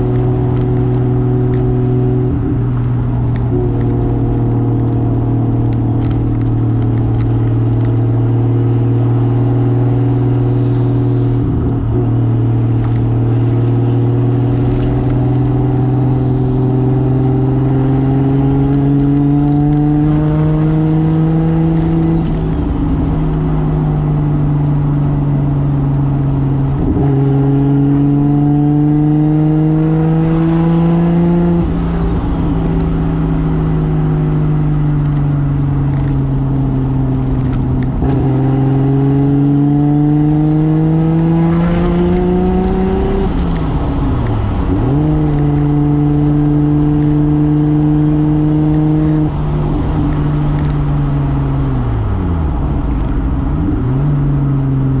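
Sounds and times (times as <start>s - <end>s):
turbocharged car engine accelerating: 0.0s - 55.0s.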